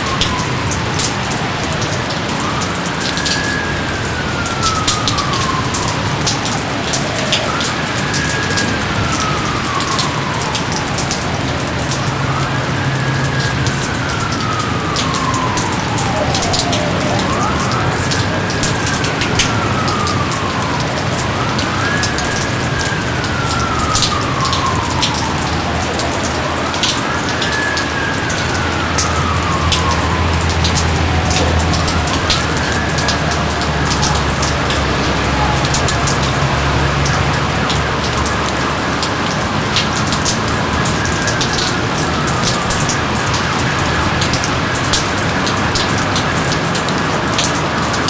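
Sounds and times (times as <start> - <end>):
heavy rain: 0.0 - 48.0
water drips clicking: 0.0 - 48.0.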